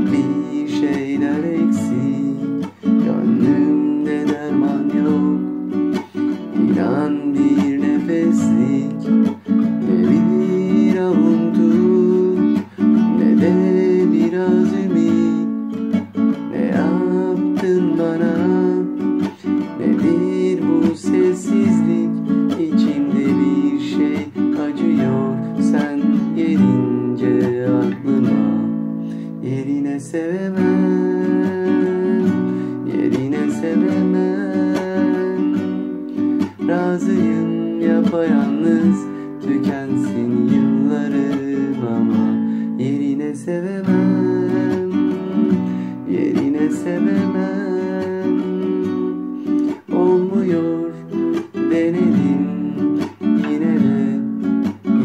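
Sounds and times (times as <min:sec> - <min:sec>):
classical guitar playing: 0:00.0 - 0:55.0.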